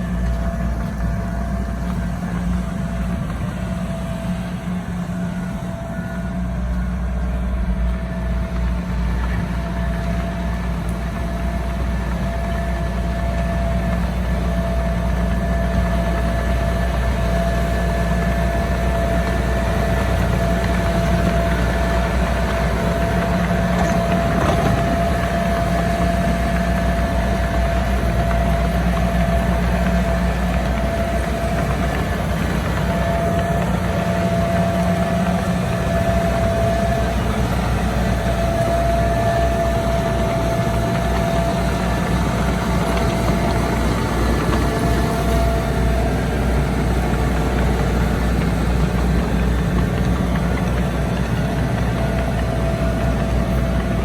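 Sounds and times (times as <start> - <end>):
heavy diesel engine running: 0.0 - 54.0
steady whine: 0.0 - 54.0.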